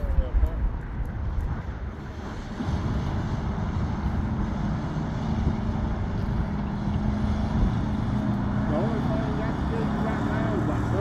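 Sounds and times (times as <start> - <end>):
distant truck diesel engine: 1.9 - 11.0.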